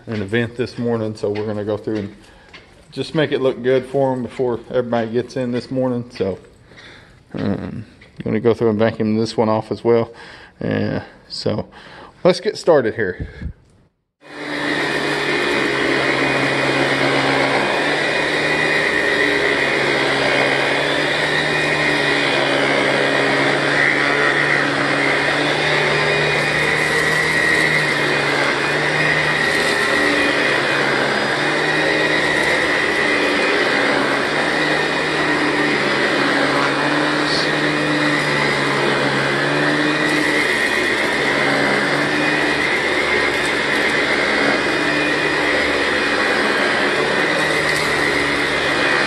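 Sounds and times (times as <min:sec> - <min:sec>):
vacuum cleaner running: 0:00.0 - 0:06.4, 0:14.2 - 0:49.0.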